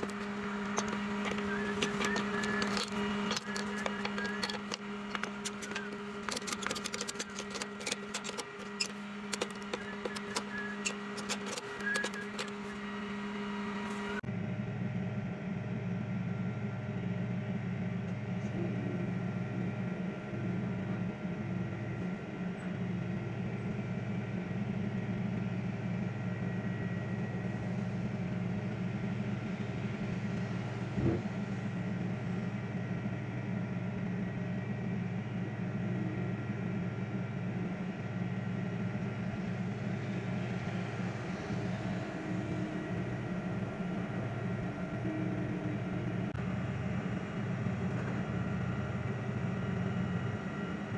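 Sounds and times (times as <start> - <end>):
tow truck engine humming: 0.0 - 50.9.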